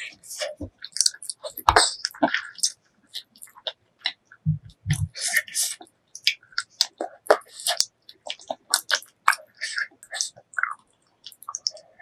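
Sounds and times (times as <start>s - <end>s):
close-miked chewing: 0.0s - 12.0s.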